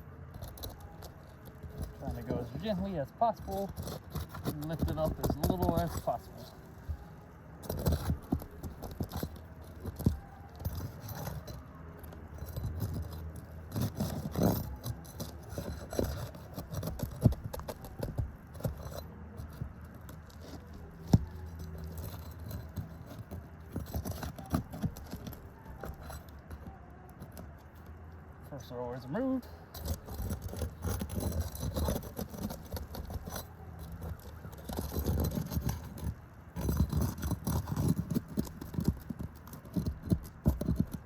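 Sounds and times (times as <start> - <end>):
low steady hum: 0.0 - 41.0
metal tool scraping under shingles: 0.0 - 41.0.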